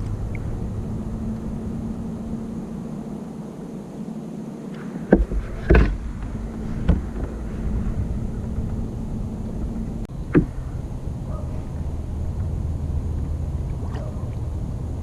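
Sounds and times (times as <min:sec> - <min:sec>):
steady low hum: 0:00.0 - 0:15.0
wind and water rushing: 0:00.0 - 0:15.0.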